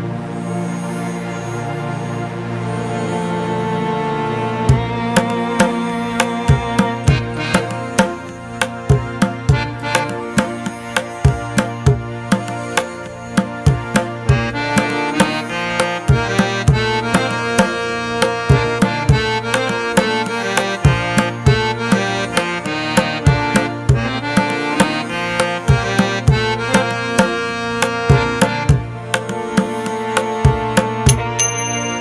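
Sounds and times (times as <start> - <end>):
held instrumental chords: 2.6 - 32.0
drums playing busy rhythm: 4.7 - 32.0.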